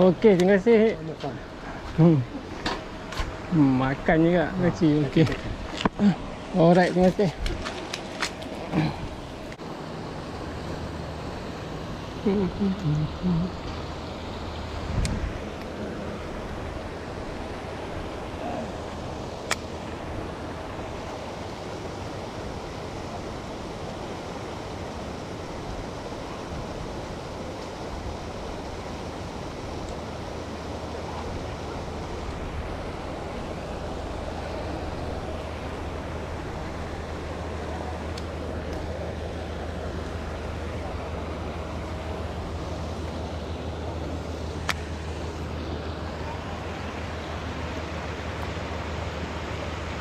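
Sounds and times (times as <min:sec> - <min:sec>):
aerators splashing water: 0:00.0 - 0:50.0
low hum: 0:00.0 - 0:50.0.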